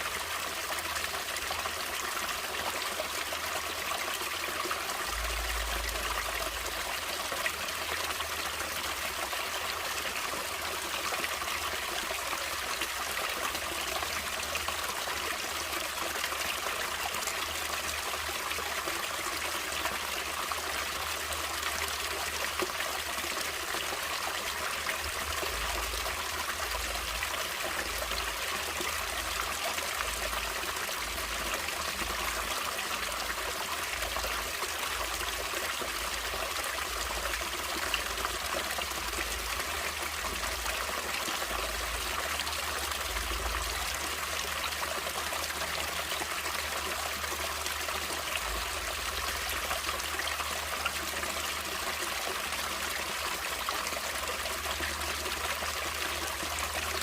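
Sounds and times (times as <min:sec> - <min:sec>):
stream water flowing over rocks: 0:00.0 - 0:57.0.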